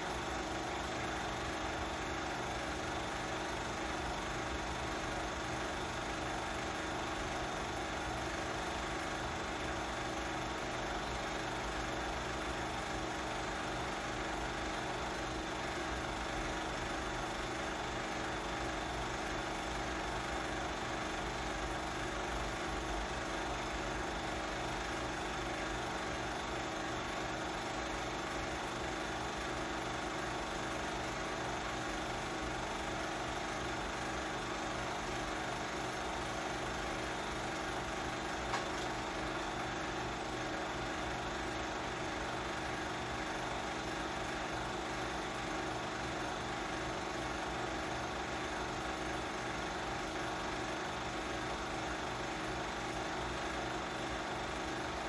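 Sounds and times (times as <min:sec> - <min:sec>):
film projector running: 0:00.0 - 0:55.0.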